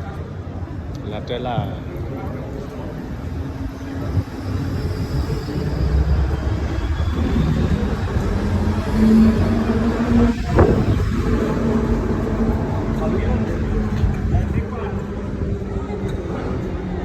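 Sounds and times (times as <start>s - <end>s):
vehicle engine rumble: 2.0s - 17.0s.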